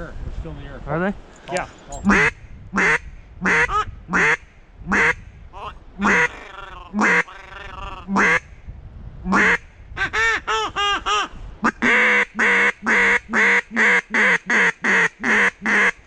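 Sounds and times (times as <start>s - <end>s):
duck call quacking: 2.1s - 8.5s, 9.3s - 16.0s.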